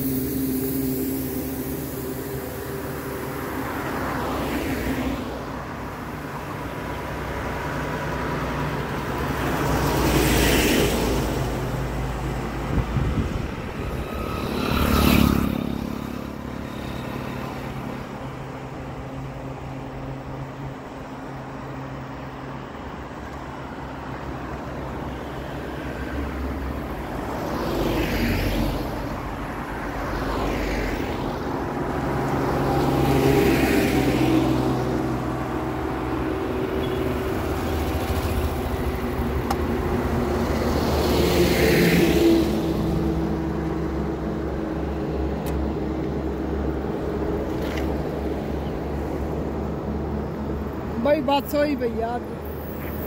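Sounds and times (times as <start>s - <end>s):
vehicle engines running: 0.0s - 25.0s, 26.6s - 53.0s
vehicles passing: 0.0s - 53.0s.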